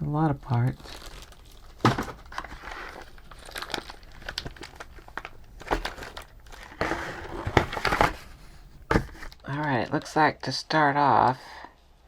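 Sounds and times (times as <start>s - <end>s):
plastic bags crinkling: 0.4s - 10.3s.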